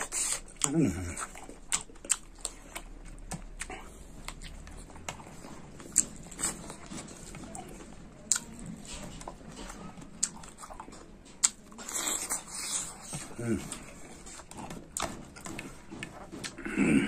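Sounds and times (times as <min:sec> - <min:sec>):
person chewing wetly: 0:00.0 - 0:17.0.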